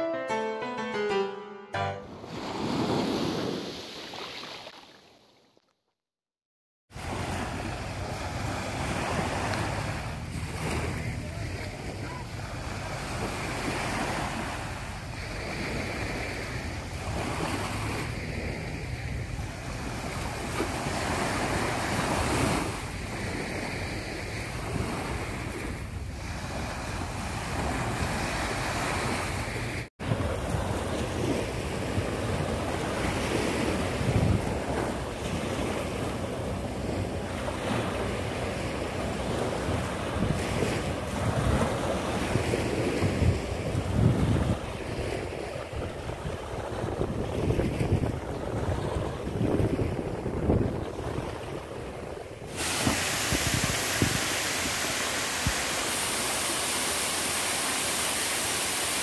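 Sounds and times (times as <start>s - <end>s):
sea waves washing up beach: 1.8s - 5.3s, 6.9s - 59.0s
wind rumble on microphone: 7.0s - 56.0s.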